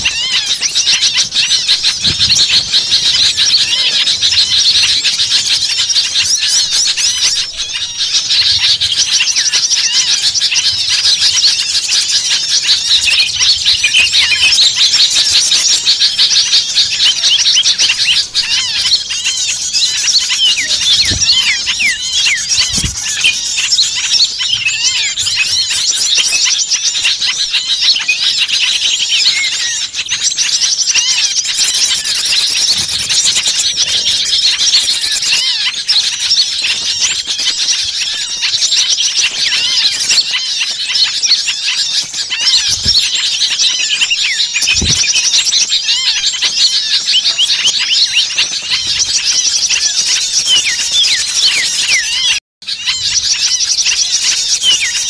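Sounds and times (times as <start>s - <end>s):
flock of songbirds chirping: 0.0s - 55.0s.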